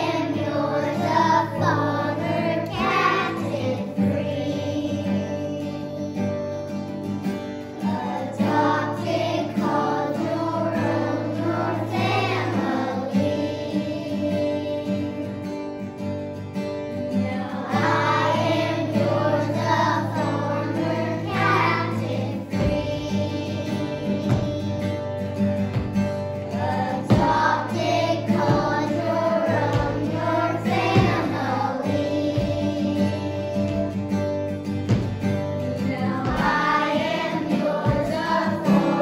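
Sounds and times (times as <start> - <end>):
children's choir singing: 0.0 - 15.9, 17.1 - 39.0
instrumental backing: 0.0 - 39.0.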